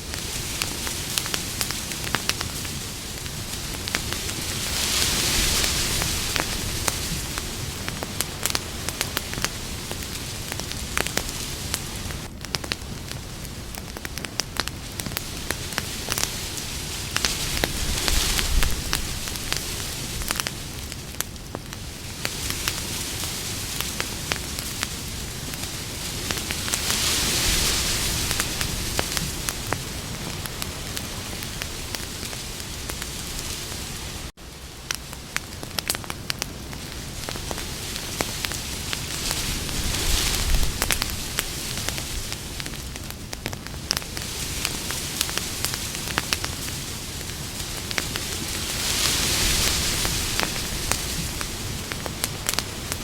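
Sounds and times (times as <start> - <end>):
campfire crackles and pops: 0.0 - 53.0
hiss of flame: 0.0 - 53.0.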